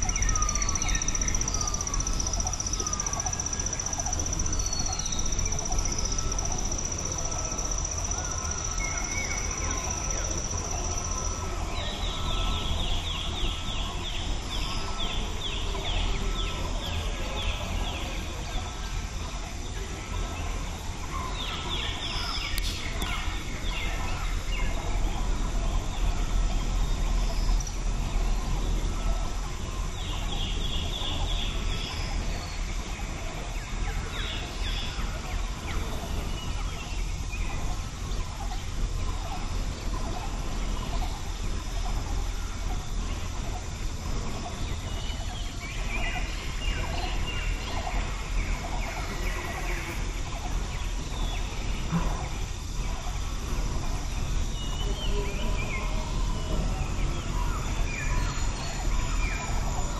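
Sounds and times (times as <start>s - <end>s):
birds rattling calls: 0.0s - 59.9s
outdoor background noise: 0.0s - 59.9s
wind rumble on microphone: 0.0s - 59.9s.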